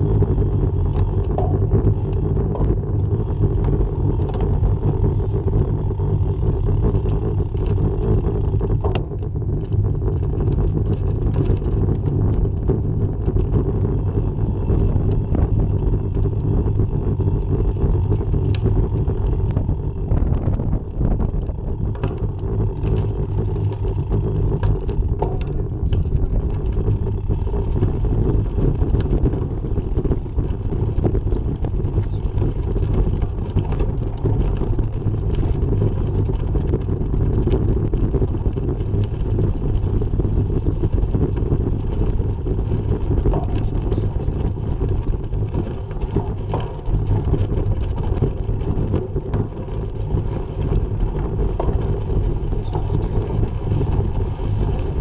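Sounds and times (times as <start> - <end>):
bike tyres rolling on gravel: 0.0 - 55.0
wind on microphone: 0.0 - 55.0.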